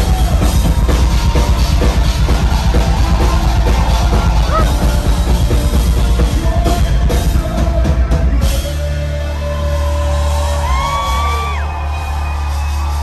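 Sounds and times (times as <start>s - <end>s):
heavy drums: 0.0s - 13.0s
rock band playing live: 0.0s - 13.0s.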